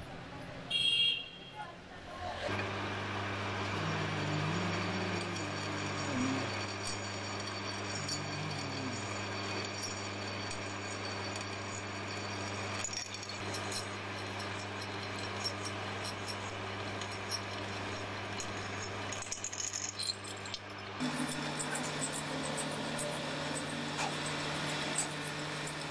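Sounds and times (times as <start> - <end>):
lathe motor hum: 2.4 - 25.9
drill bit cutting steel: 2.5 - 25.9.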